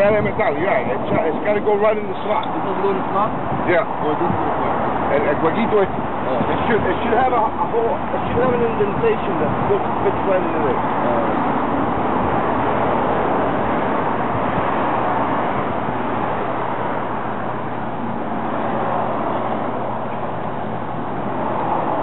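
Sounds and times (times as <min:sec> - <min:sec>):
road traffic rushing: 0:00.0 - 0:22.0.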